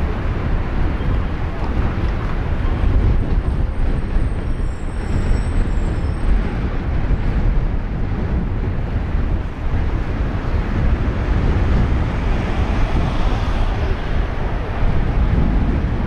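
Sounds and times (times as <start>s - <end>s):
city street rumble: 0.0s - 16.0s.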